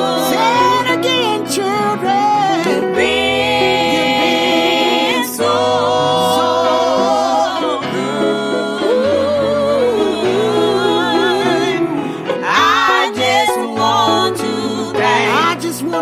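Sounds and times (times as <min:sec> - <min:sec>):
voices singing in harmony: 0:00.0 - 0:16.0.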